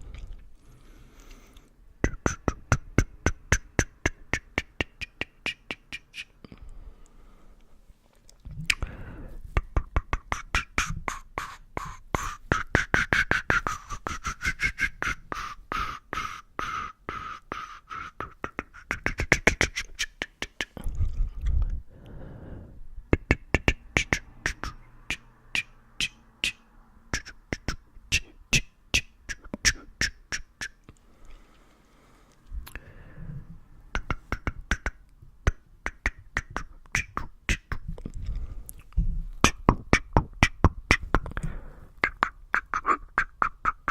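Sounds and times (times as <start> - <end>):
mouth clicks and pops: 1.3 - 6.8, 8.2 - 21.8, 23.0 - 31.1, 32.4 - 32.8, 33.9 - 43.9.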